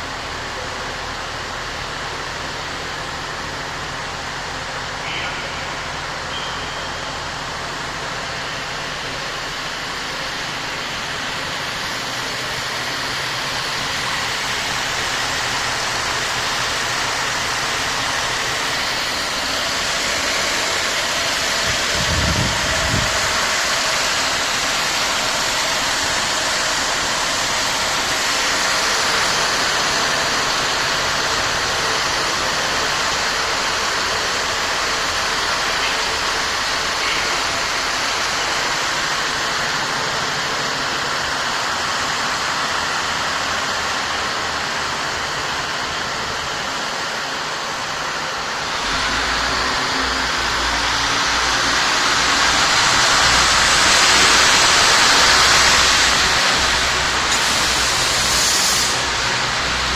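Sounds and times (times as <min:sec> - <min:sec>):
vehicle running noise: 0:00.0 - 0:59.9.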